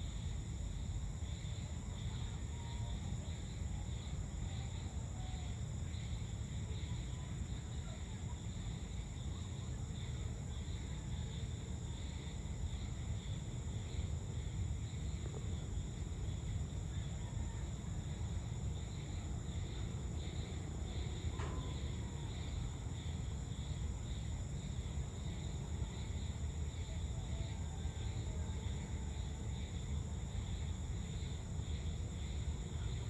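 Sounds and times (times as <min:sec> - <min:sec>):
insects trilling: 0:00.1 - 0:33.0.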